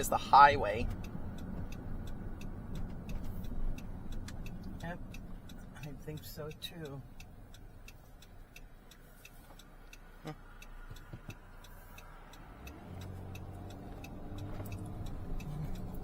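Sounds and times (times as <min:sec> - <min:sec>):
car engine: 0:00.0 - 0:16.0
road noise in cabin: 0:00.0 - 0:16.0
turn signal ticking: 0:00.0 - 0:16.0.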